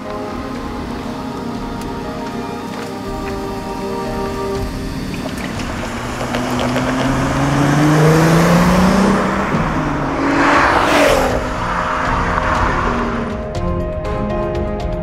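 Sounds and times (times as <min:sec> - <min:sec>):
car passing rush: 0:00.0 - 0:13.7
car engine accelerating hard: 0:00.0 - 0:13.8.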